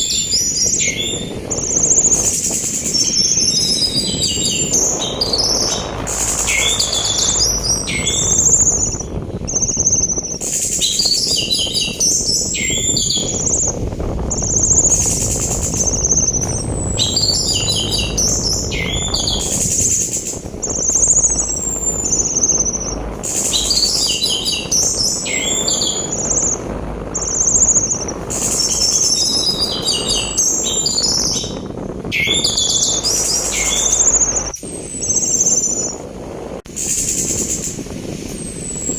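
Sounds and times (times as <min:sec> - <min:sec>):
sea wind rushing: 0:00.0 - 0:38.9
thrush singing whistles and rattles: 0:00.0 - 0:38.9.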